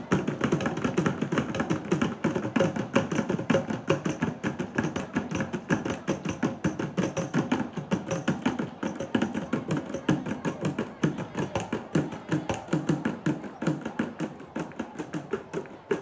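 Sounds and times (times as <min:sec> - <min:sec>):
fast barrel drumming: 0:00.0 - 0:16.0.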